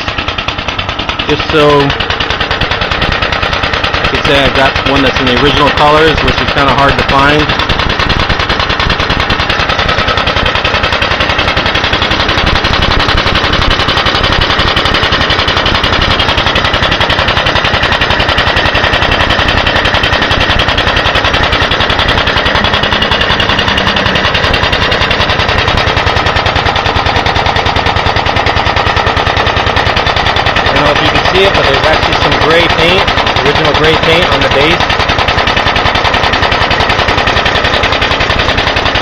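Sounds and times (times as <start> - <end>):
single-cylinder mower engine running: 0.0 - 39.0.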